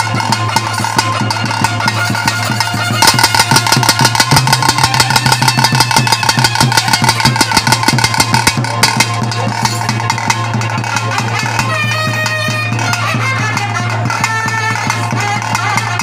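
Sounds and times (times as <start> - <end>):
held high tones: 0.0 - 15.7
fast ritual drumming: 0.0 - 16.0.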